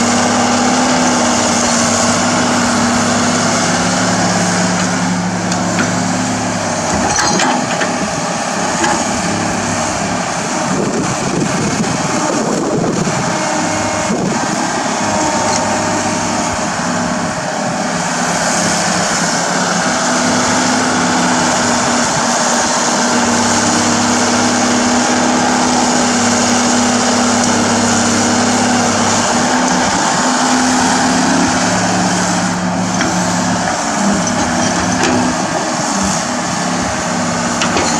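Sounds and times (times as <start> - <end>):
excavator diesel engine under load: 0.0 - 37.9.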